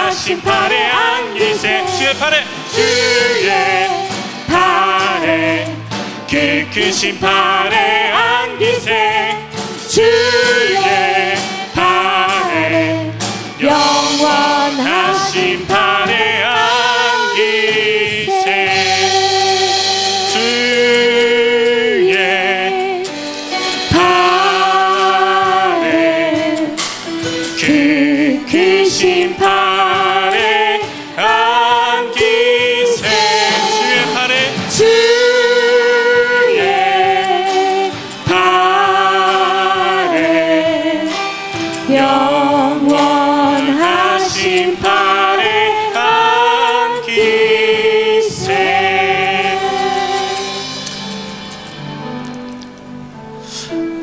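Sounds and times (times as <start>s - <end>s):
women singing a hymn: 0.0s - 51.0s
acoustic guitar: 0.0s - 54.0s.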